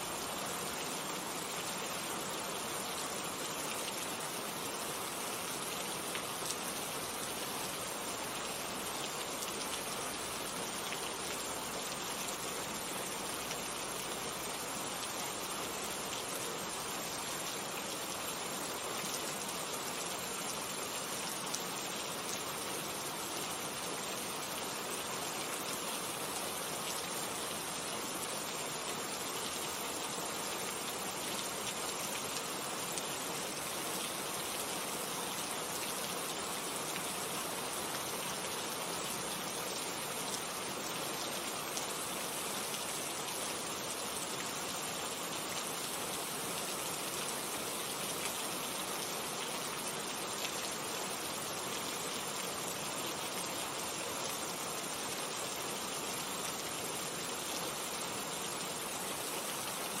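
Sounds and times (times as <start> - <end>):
steady rain hiss: 0.0 - 60.0.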